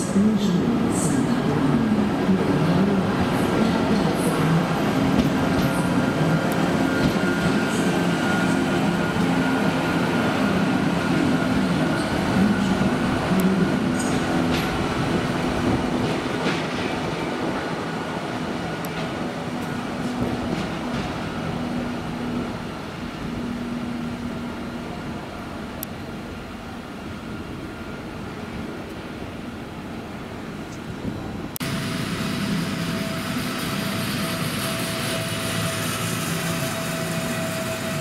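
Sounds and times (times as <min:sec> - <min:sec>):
electric locomotive hum: 0:00.0 - 0:38.0.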